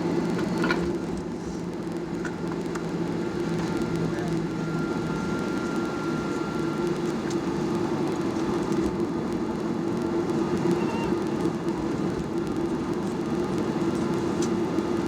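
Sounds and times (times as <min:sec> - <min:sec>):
jet engines humming in cabin: 0:00.0 - 0:15.0.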